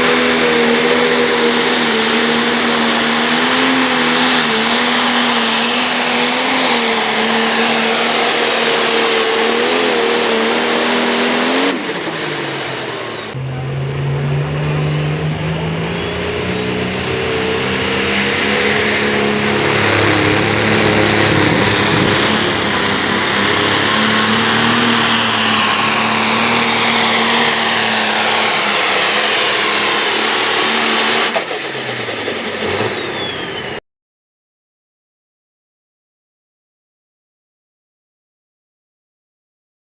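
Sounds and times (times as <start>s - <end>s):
diesel engine running hard: 0.0s - 33.8s.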